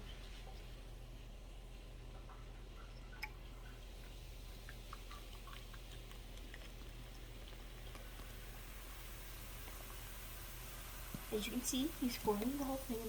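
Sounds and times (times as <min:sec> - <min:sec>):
soda fizzing in a bowl: 0:00.0 - 0:13.0.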